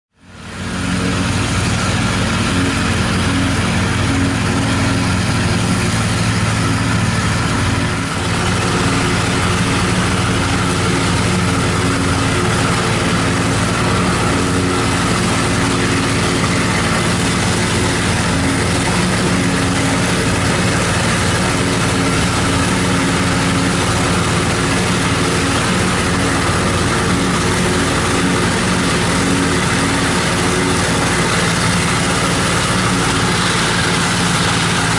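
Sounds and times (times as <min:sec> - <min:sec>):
forage harvester engine and chopper drone: 0:00.2 - 0:34.9.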